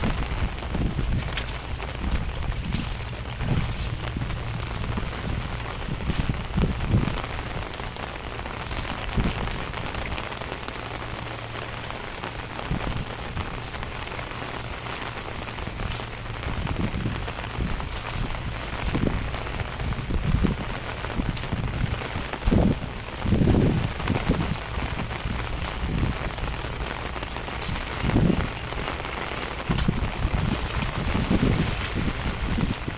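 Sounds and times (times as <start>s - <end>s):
low uneven rumble: 0.0s - 32.9s
rain falling: 0.0s - 32.9s.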